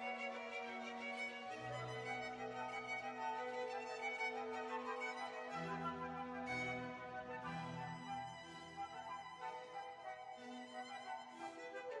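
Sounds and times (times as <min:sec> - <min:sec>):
slow bowed string music: 0:00.0 - 0:12.0.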